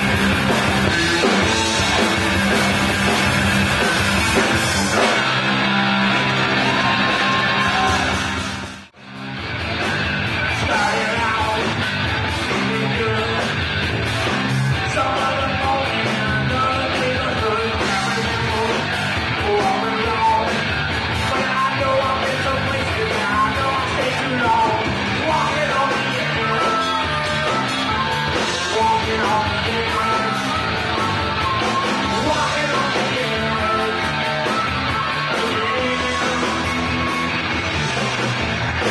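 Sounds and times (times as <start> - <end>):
bass guitar: 0.0 - 38.9
drums: 0.0 - 38.9
electric guitar: 0.0 - 38.9.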